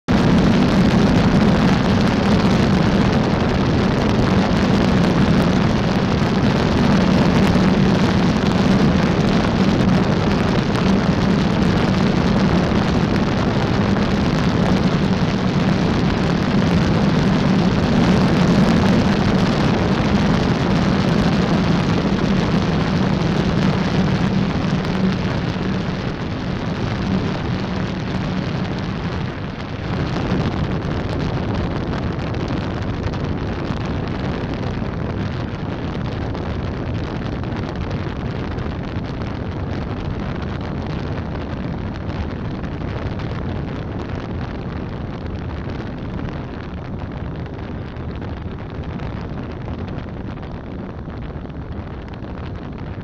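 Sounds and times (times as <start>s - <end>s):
propeller airplane engine drone: 0.0s - 53.0s
rushing wind: 0.0s - 53.0s.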